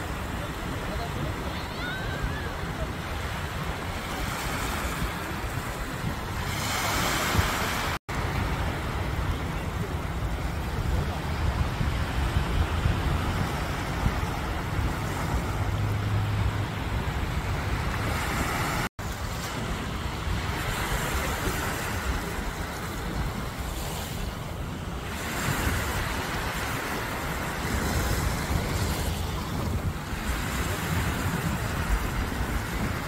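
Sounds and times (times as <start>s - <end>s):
small waves washing ashore: 0.0s - 33.0s
wind rumble on microphone: 0.0s - 33.0s.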